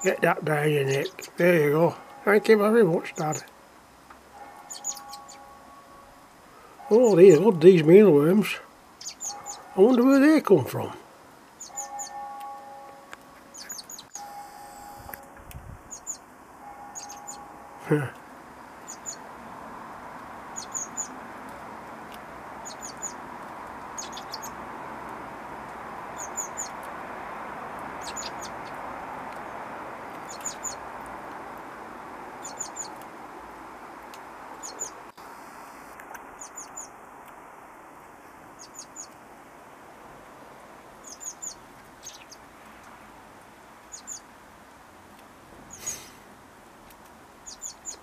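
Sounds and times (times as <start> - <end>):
steady background hiss: 0.0 - 48.0.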